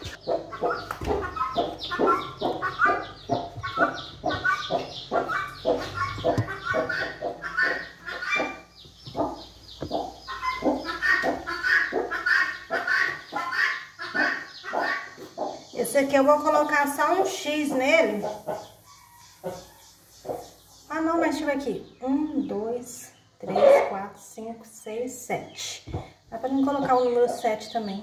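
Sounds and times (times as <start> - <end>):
hens clucking: 0.0 - 22.7, 23.4 - 24.3, 25.4 - 28.0.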